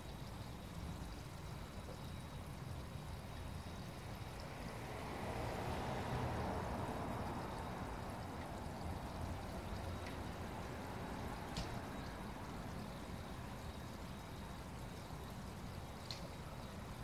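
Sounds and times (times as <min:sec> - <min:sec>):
water pouring into pond: 0:00.0 - 0:17.0.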